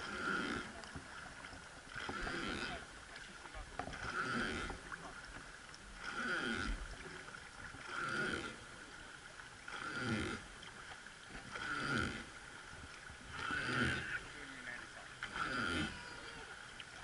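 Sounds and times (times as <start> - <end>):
wooden oar creaking: 0.0 - 8.6, 9.6 - 17.0
oar splashing water: 0.0 - 17.0.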